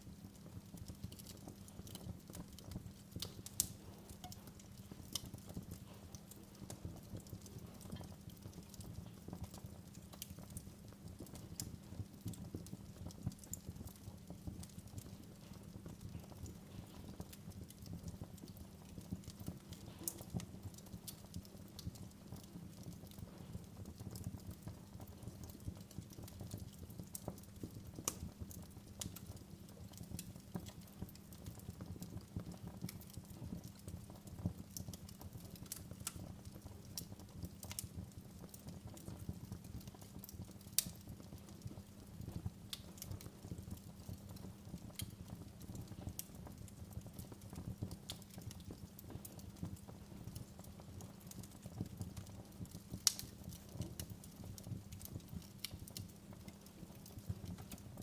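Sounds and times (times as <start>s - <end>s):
fire crackling and popping: 0.0s - 58.0s
low fire rumble: 0.0s - 58.0s.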